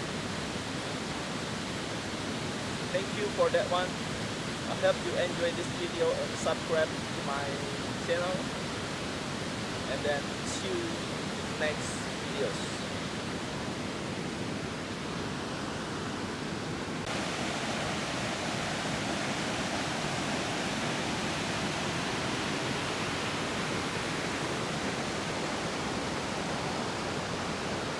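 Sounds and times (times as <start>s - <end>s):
river water rushing: 0.1s - 27.9s.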